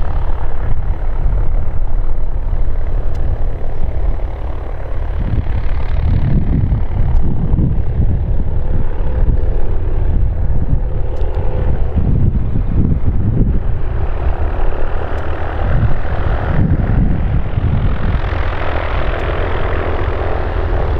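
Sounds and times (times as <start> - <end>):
propeller plane engine running: 0.0 - 20.9
wind buffeting microphone: 0.0 - 20.9.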